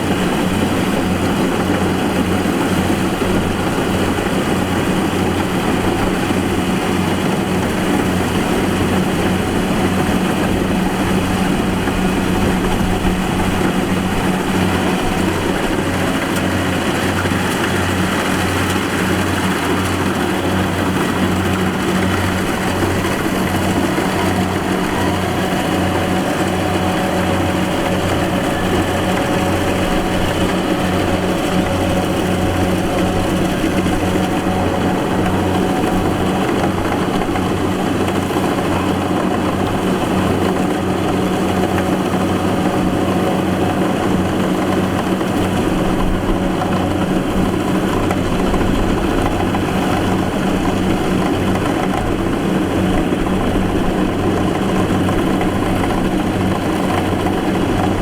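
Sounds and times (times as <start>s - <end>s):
farm machine engine running: 0.0s - 58.0s.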